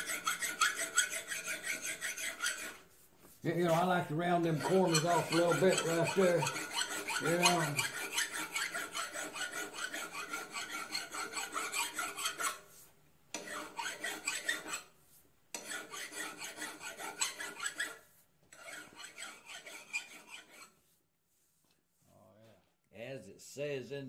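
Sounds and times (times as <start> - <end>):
hand file scraping metal: 0.0 - 21.0.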